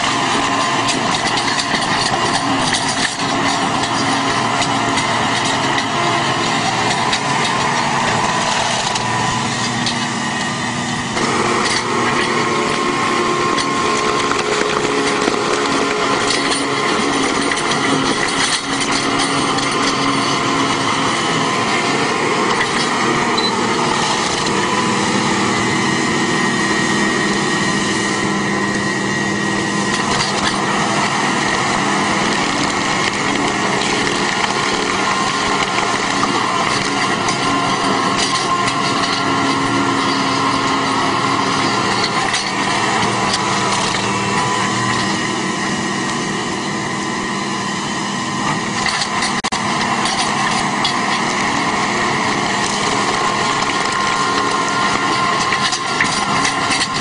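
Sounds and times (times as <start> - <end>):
stump cutter grinding wood: 0.0 - 57.0
tractor engine running: 0.0 - 57.0.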